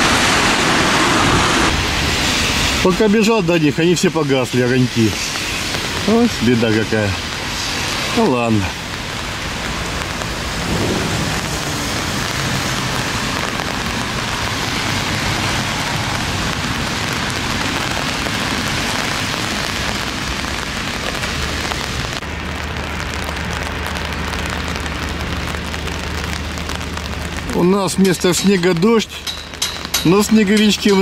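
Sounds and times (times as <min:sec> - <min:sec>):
rain on wet paving: 0:00.0 - 0:31.0.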